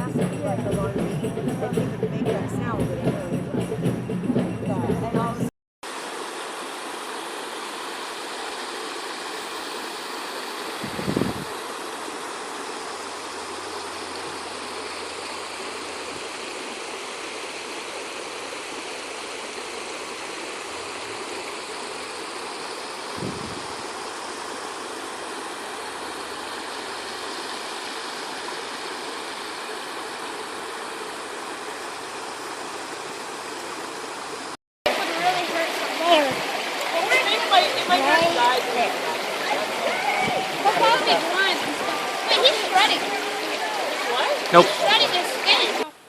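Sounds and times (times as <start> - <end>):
rushing water: 0.0 - 46.0.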